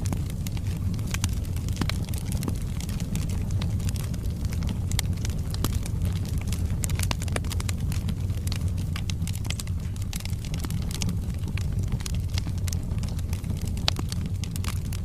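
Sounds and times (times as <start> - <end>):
burning logs crackling and popping: 0.0 - 15.0
fire flames rumbling: 0.0 - 15.0.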